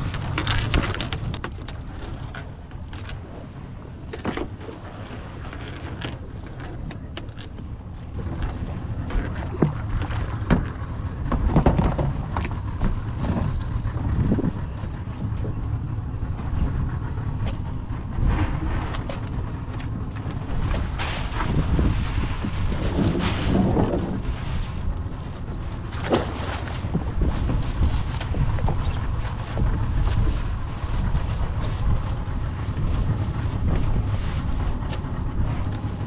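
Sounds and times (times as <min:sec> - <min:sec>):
boat engine rumble: 0:00.0 - 0:36.0
wind buffeting microphone: 0:00.0 - 0:36.0.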